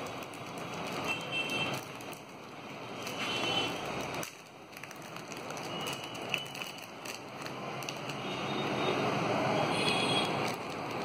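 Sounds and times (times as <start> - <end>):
plastic packaging crinkling: 0.0 - 8.3, 10.3 - 11.0.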